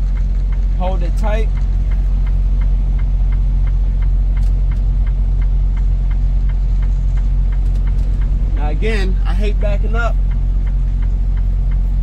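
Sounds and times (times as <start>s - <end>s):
diesel truck engine idling: 0.0s - 12.0s
light regular ticking: 0.0s - 12.0s.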